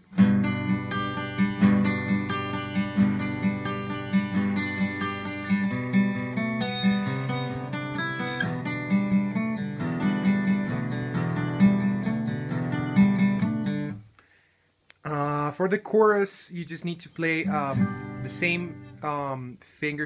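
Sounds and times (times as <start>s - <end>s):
acoustic guitar picking: 0.0s - 14.1s, 16.9s - 19.4s.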